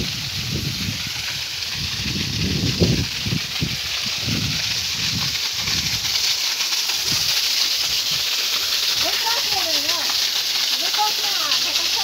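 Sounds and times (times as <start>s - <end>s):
waterfall splashing onto rock: 0.0s - 12.0s.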